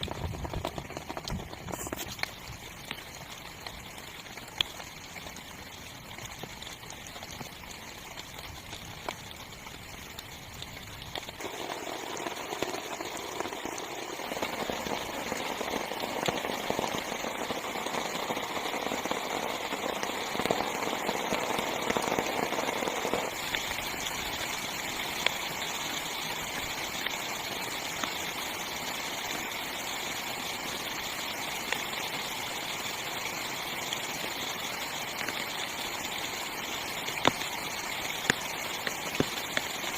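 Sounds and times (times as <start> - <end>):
heavy rain on tent fabric: 0.0 - 39.9
rain drops ticking: 0.0 - 39.9.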